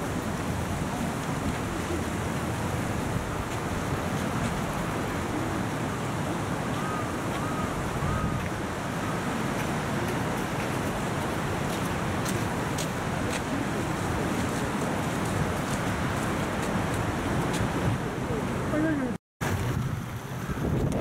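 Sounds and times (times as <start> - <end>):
outdoor background noise: 0.0 - 21.0
wind rumbling on microphone: 0.0 - 21.0.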